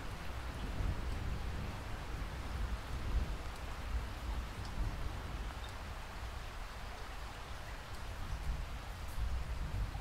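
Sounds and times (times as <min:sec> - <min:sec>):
steady rain patter: 0:00.0 - 0:10.0.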